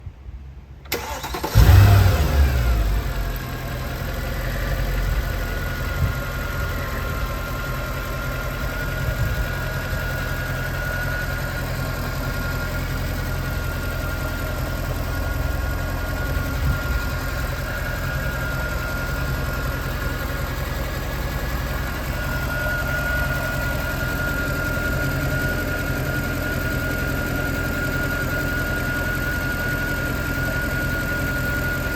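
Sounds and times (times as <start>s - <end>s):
car engine starting and idling: 0.4s - 31.9s.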